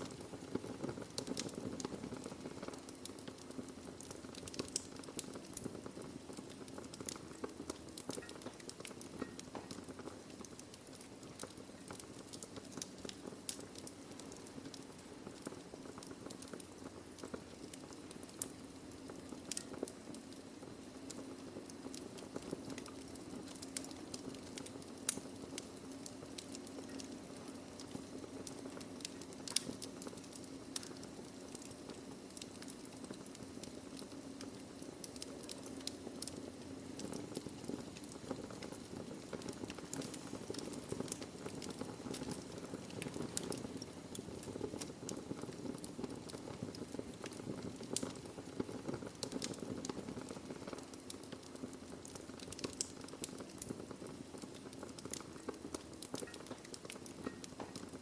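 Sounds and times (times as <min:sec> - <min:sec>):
logs crackling and popping: 0:00.0 - 0:58.0.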